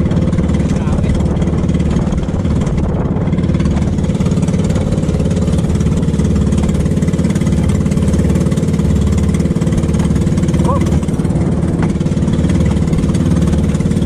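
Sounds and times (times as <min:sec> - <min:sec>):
choppy water splashing against hull: 0:00.0 - 0:14.0
small boat engine running: 0:00.0 - 0:14.0.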